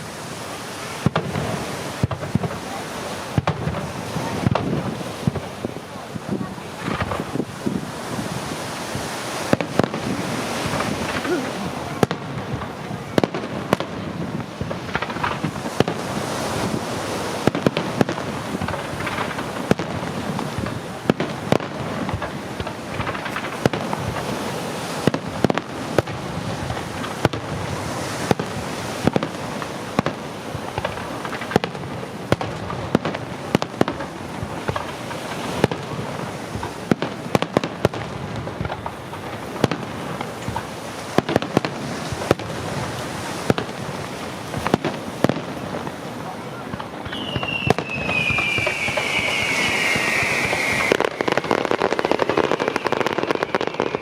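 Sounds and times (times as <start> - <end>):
fireworks crackling: 0.0 - 54.0
fireworks sharp bangs: 0.0 - 54.0.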